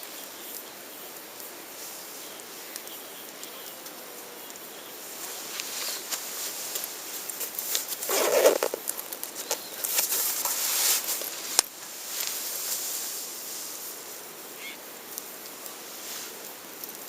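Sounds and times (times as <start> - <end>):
wood campfire crackling: 0.0 - 17.0.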